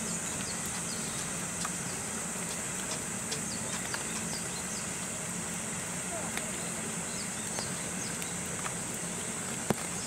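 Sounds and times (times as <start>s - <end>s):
faint chirps and ticks: 0.0s - 5.1s, 6.2s - 10.0s.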